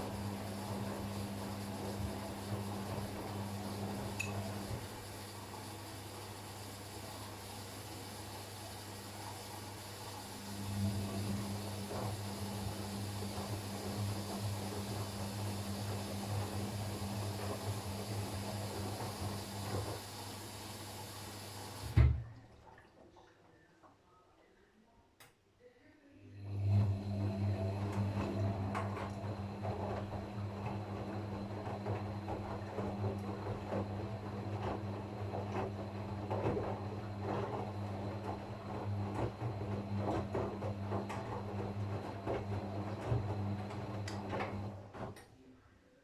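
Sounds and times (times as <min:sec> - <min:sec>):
washing machine running: 0:00.0 - 0:23.2, 0:26.3 - 0:45.2.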